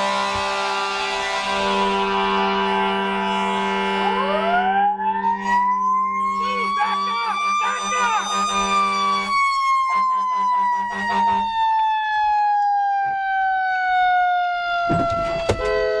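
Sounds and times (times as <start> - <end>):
steady horn tone: 0.0 - 11.8, 14.9 - 16.0
low pulsing horn: 0.0 - 12.0, 14.9 - 16.0
fire truck siren winding down: 0.0 - 16.0.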